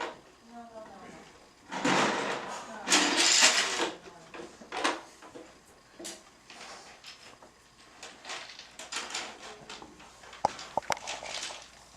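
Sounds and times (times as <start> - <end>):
objects knocking and scraping: 1.7 - 11.8.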